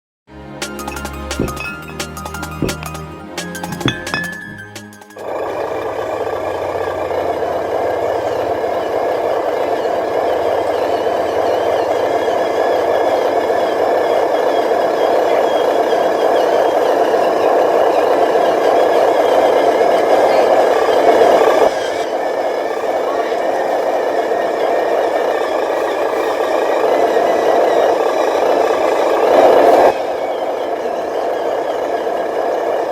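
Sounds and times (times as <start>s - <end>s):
toy truck motor drone: 5.2s - 32.9s.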